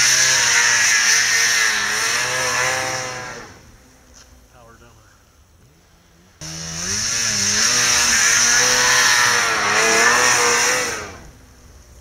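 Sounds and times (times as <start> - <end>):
snowmobile engine revving: 0.0 - 5.0, 5.6 - 12.0.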